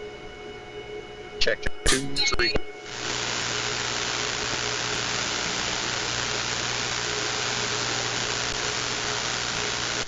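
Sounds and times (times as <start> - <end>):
radio static hiss: 1.4 - 10.0.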